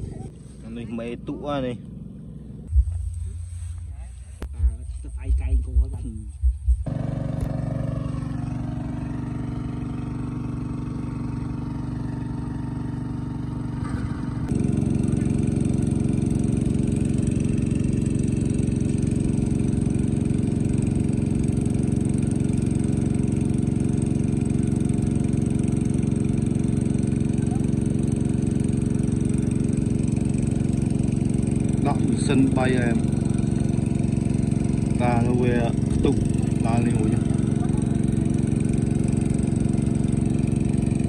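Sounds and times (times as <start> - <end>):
small petrol engine running: 0.0 - 3.0, 6.8 - 41.0.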